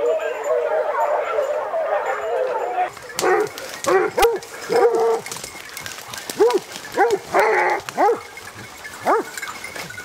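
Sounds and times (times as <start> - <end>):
hounds baying: 0.0 - 10.0.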